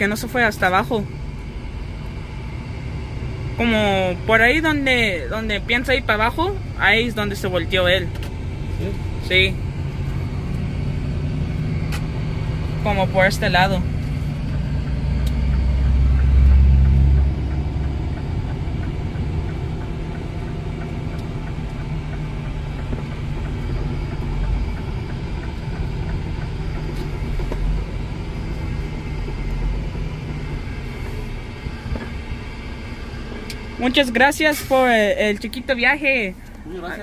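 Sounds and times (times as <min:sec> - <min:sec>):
road rumble: 0:00.0 - 0:37.0
truck diesel engine running: 0:00.0 - 0:37.0.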